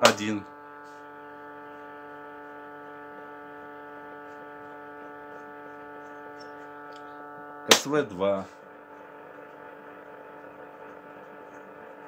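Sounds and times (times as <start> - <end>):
radio interference hum: 0.0 - 12.0.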